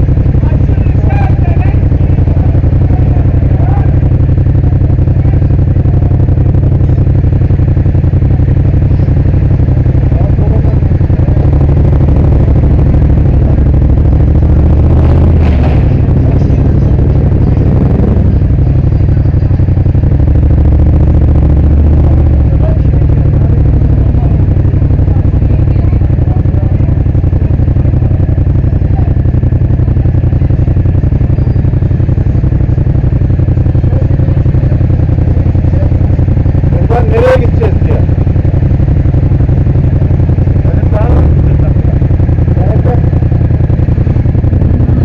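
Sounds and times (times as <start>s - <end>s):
motorcycle engine rumbling: 0.0s - 45.0s.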